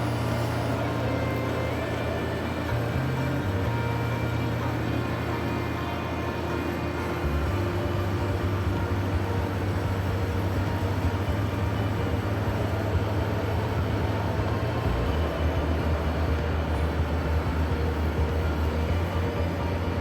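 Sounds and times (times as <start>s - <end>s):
diesel railcar engine drone: 0.0s - 20.0s
rail rumble: 0.0s - 20.0s.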